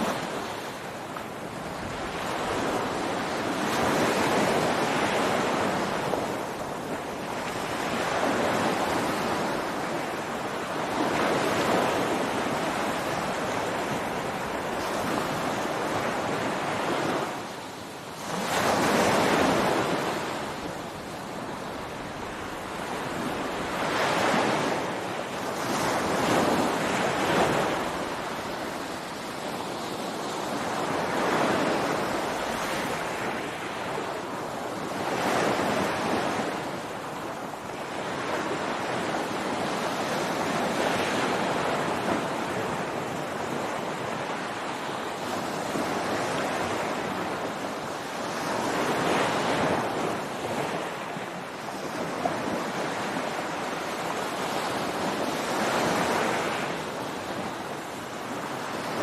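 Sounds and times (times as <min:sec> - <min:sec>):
ocean waves breaking on beach: 0:00.0 - 0:59.0
wind noise on microphone: 0:00.0 - 0:59.0.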